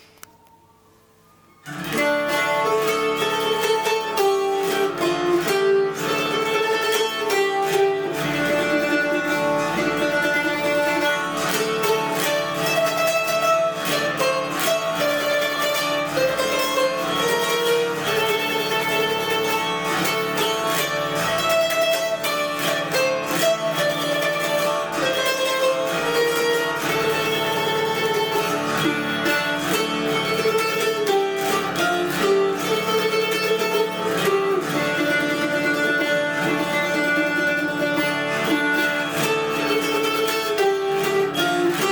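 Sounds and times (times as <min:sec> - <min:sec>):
zither folk melody: 0:00.0 - 0:41.9.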